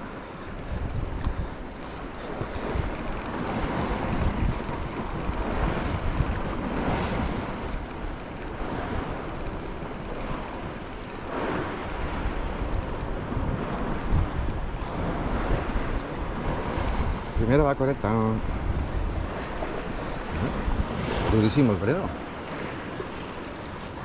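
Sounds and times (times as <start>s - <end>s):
waves washing: 0.0s - 24.0s
wind buffeting microphone: 0.0s - 24.0s.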